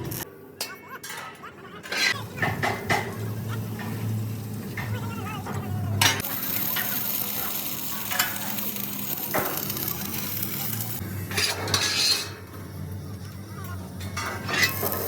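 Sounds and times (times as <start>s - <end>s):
arc welding crackling hiss: 0.0s - 0.2s, 2.2s - 5.4s, 6.0s - 15.0s.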